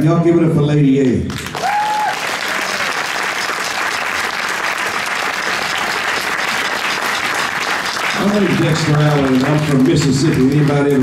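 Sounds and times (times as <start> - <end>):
audience applauding: 1.3 - 11.0
crowd cheering: 1.4 - 11.0.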